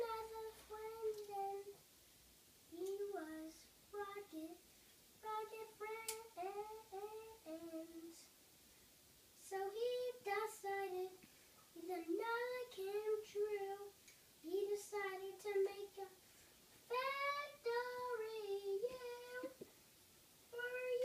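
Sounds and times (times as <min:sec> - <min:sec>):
young boy singing: 0:00.0 - 0:01.8, 0:02.7 - 0:04.6, 0:05.2 - 0:08.3, 0:09.4 - 0:16.2, 0:16.8 - 0:19.6, 0:20.5 - 0:21.0.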